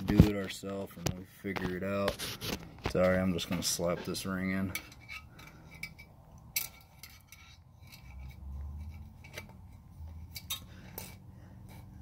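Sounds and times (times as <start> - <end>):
metal ring rubbing: 2.1 - 12.0.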